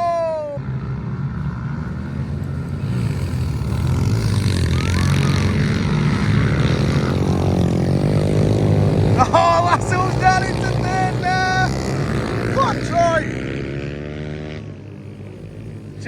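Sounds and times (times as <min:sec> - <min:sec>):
pit bike engines racing: 0:00.0 - 0:16.0.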